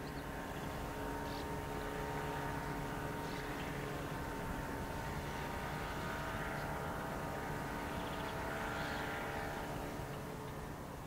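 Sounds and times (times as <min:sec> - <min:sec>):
engine drone with whining tones: 0:00.0 - 0:11.0.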